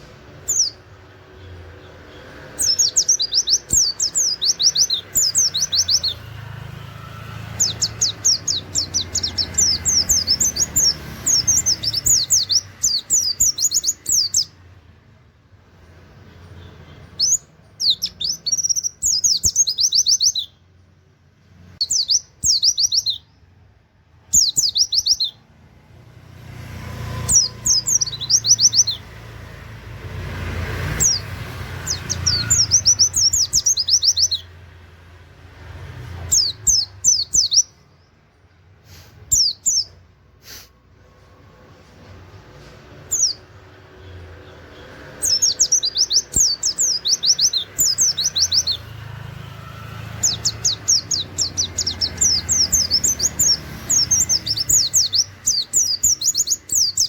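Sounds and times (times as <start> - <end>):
bird singing rapid high notes: 0.0 - 14.6, 16.2 - 20.8, 21.6 - 23.6, 24.2 - 25.5, 26.9 - 34.8, 35.7 - 38.2, 39.1 - 40.0, 42.9 - 57.0.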